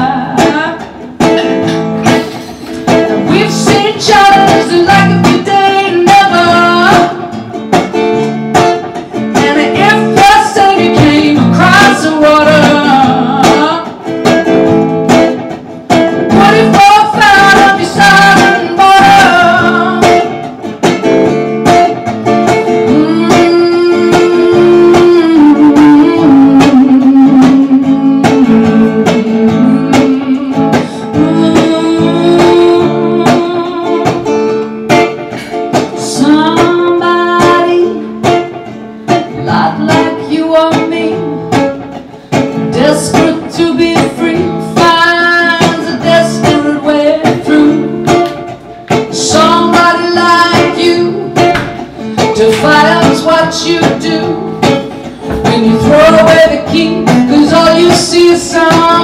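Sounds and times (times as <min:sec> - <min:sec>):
woman singing: 0:00.0 - 0:14.6, 0:15.2 - 0:20.7, 0:22.4 - 0:59.0
strummed electric guitar: 0:00.0 - 0:59.0.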